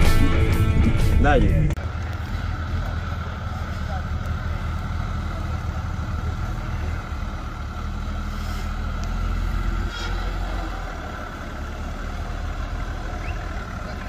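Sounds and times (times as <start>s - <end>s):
off-road vehicle engine rumbling: 0.0s - 14.0s.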